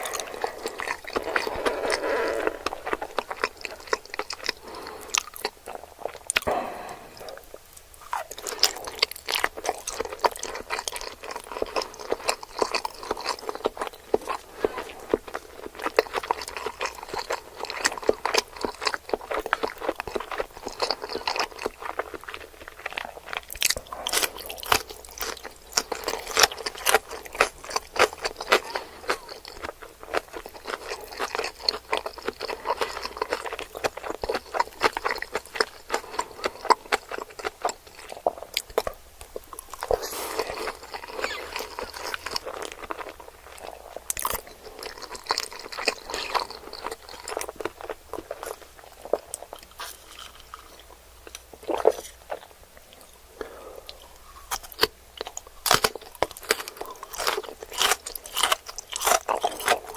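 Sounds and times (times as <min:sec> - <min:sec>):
chewing with mouth smacks: 0:00.0 - 0:59.9.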